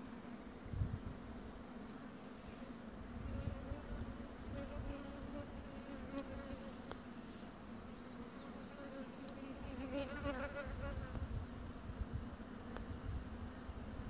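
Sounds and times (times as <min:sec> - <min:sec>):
bumblebee buzzing: 0:00.0 - 0:14.0.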